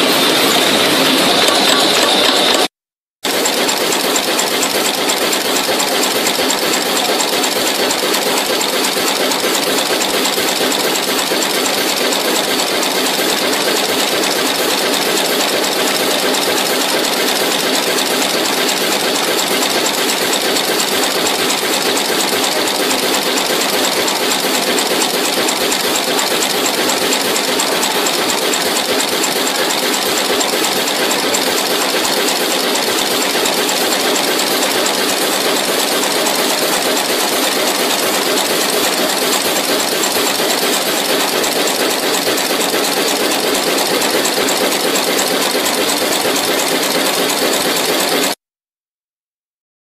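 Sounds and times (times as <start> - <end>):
machine mechanical clatter: 0.0 - 48.4.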